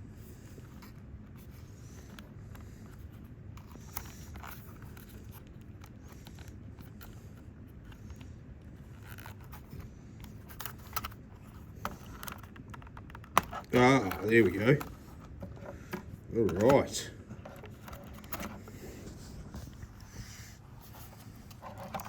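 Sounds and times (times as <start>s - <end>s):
hands unboxing packaging: 0.8s - 22.0s.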